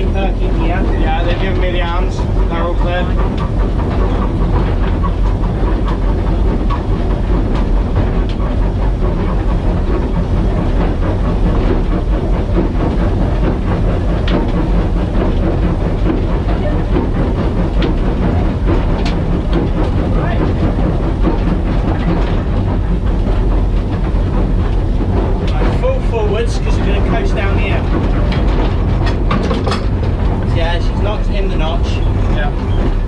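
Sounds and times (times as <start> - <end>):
rail joint clicks: 0.0 - 33.0
steam locomotive rumbling: 0.0 - 33.0.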